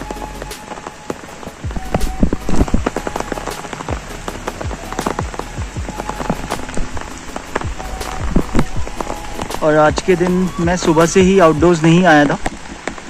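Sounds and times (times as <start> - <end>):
large raindrops tapping: 0.0 - 13.0
rain falling: 0.0 - 13.0.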